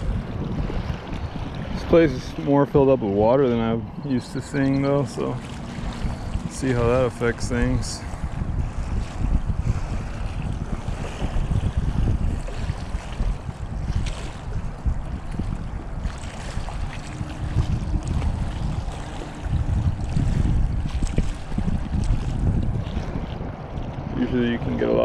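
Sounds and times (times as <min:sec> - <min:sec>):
water lapping at bank: 0:00.0 - 0:25.0
wind buffeting microphone: 0:00.0 - 0:25.0.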